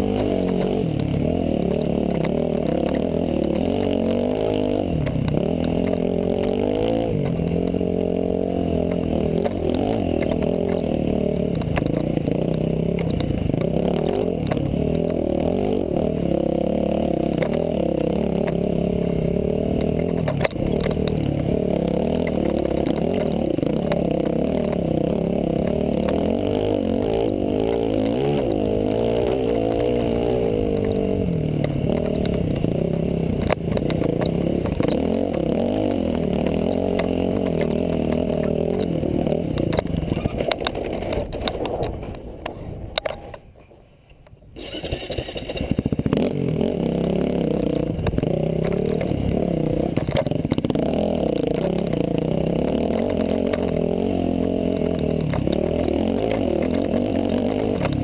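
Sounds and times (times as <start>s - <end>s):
dirt bike engine running hard: 0.0s - 43.4s, 44.6s - 58.0s.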